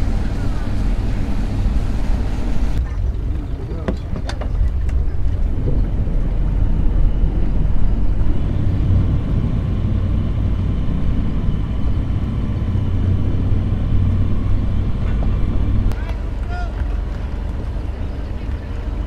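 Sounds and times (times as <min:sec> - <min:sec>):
engine running with low rumble: 0:00.0 - 0:19.0.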